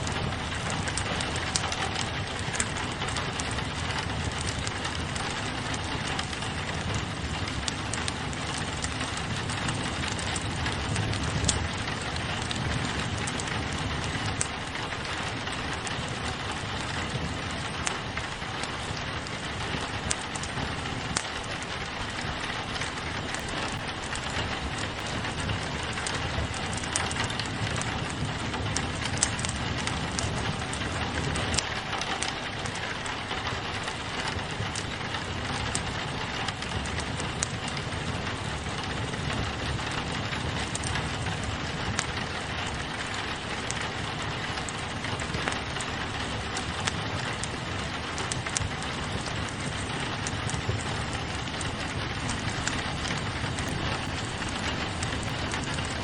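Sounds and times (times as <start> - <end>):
crackling wood fire: 0.0 - 56.0
fire popping: 0.0 - 56.0
rain on a window: 0.0 - 56.0.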